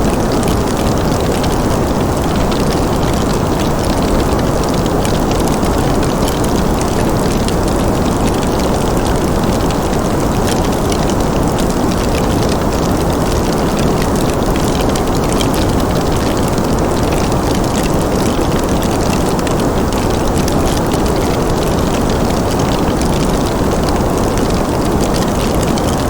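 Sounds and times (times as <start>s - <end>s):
low rumbling noise: 0.0s - 26.0s
wood fire crackling: 0.0s - 26.0s.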